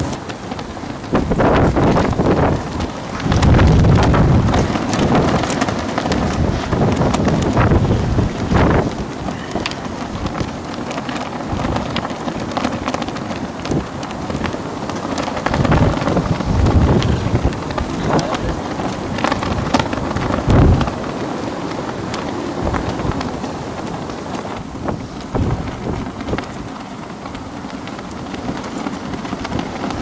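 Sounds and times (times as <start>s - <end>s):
gusty wind buffeting microphone: 0.0s - 30.0s.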